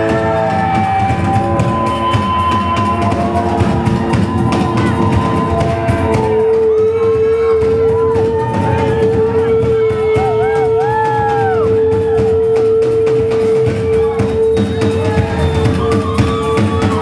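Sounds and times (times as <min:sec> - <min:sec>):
busy drum beat: 0:00.0 - 0:17.0
live rock band playing: 0:00.0 - 0:17.0.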